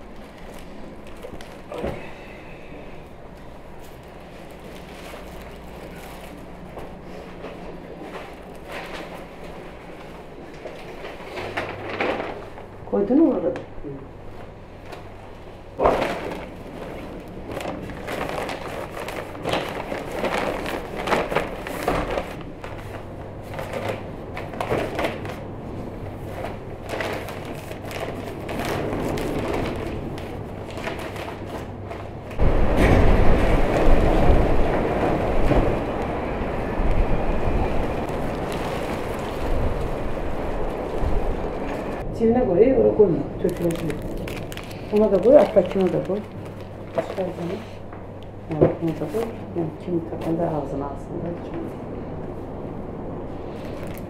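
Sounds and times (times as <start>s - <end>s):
plastic bags rustling: 0.0s - 13.5s, 14.2s - 42.0s, 43.3s - 50.8s, 53.1s - 54.0s
steady rumble and hiss: 0.0s - 54.0s.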